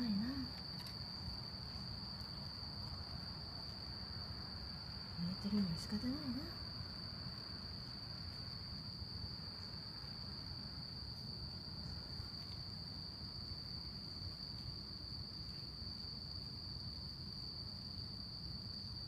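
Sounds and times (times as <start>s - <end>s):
faint low rumble: 0.0s - 17.8s
crickets and insects trilling: 0.0s - 19.0s.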